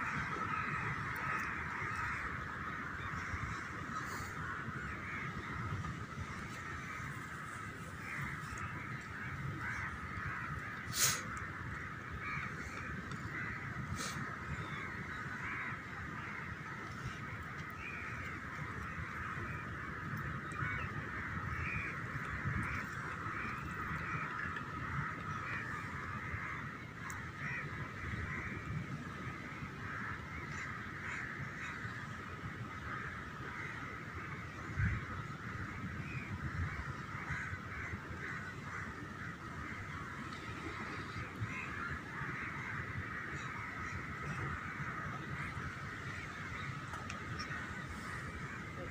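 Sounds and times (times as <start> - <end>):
chorus of birds calling: 0.0 - 48.9.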